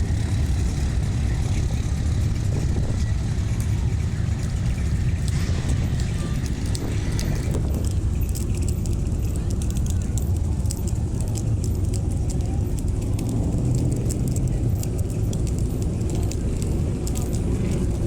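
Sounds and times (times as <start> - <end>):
car engines in traffic: 0.0 - 18.0
faint rapid ticks and crackles: 0.0 - 18.0.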